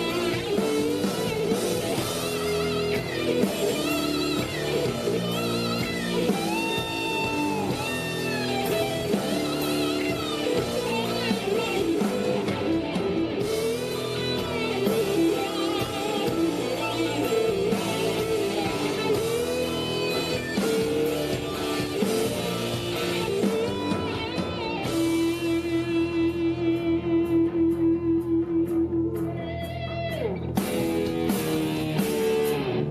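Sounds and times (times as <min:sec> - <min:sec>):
electric guitar melody: 0:00.0 - 0:32.9
rock band playing: 0:00.0 - 0:32.9.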